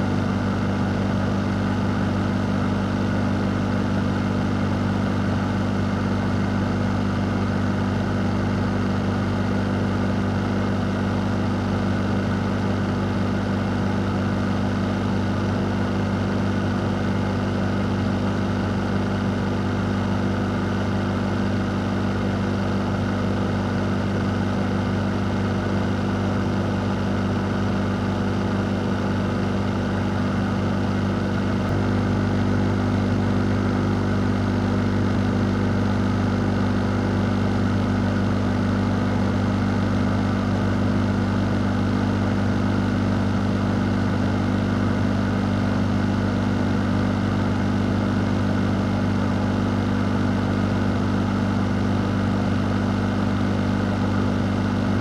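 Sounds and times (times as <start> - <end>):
fan motor hum: 0.0 - 55.0.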